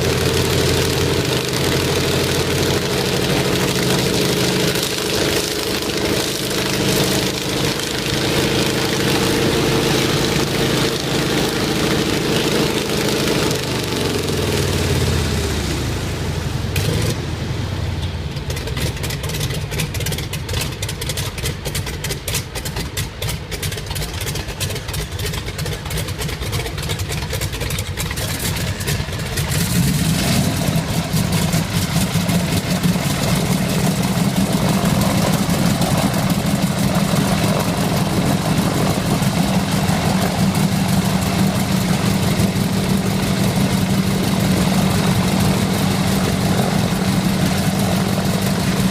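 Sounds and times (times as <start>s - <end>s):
aero engine running roughly: 0.0s - 48.9s.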